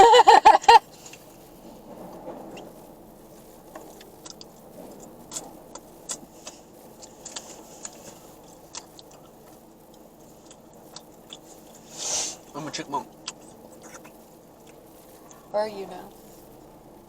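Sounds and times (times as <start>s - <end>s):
low steady hum: 0.0s - 17.0s
faint chewing: 0.7s - 16.8s.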